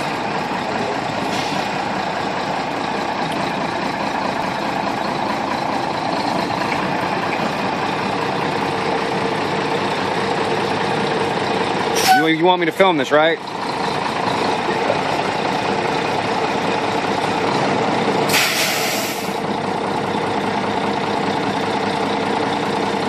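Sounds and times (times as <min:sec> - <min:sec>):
truck diesel engine idling: 0:00.0 - 0:23.0.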